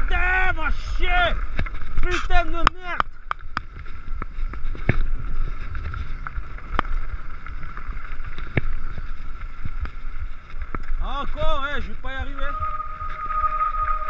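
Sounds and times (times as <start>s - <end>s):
wind rumbling on microphone: 0.0s - 14.0s
bike knocking and rattling: 1.4s - 13.9s.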